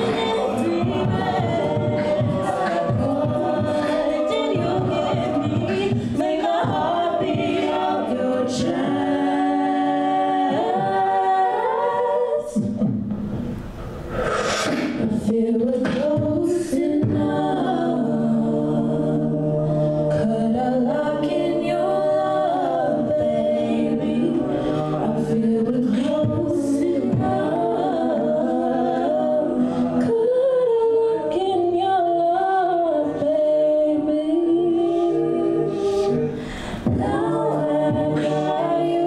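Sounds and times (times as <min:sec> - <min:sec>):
a cappella group singing: 0:00.0 - 0:39.0.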